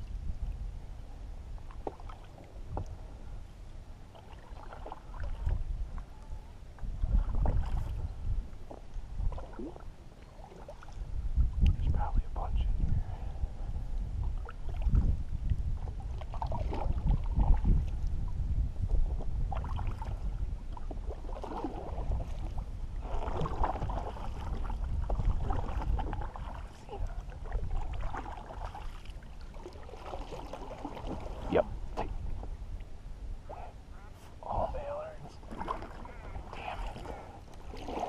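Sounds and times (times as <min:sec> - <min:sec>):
low wind rumble: 0:00.0 - 0:38.0
water gurgling along hull: 0:00.0 - 0:38.0.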